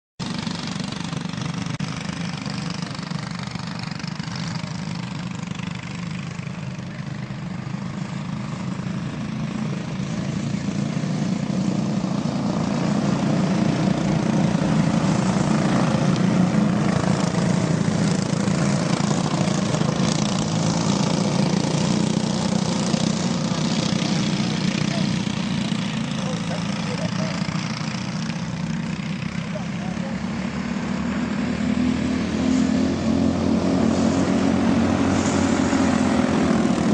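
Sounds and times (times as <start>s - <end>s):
racing kart engines: 0.2s - 36.9s.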